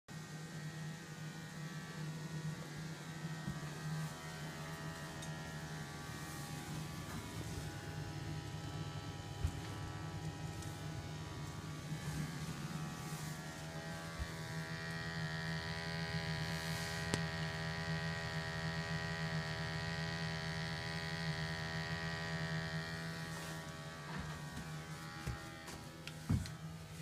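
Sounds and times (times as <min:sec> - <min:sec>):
sampling pump buzzing whine: 0:00.1 - 0:27.0
gas boiler humming: 0:00.2 - 0:27.0.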